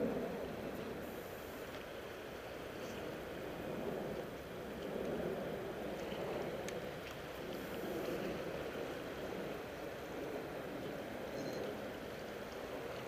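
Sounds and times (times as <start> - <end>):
wind on microphone: 0.0 - 1.4, 2.3 - 13.0
harbour water: 0.0 - 13.0.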